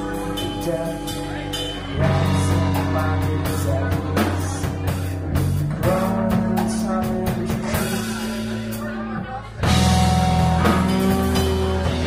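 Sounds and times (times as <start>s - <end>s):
bass notes: 0.0s - 12.0s
drums: 0.0s - 12.0s.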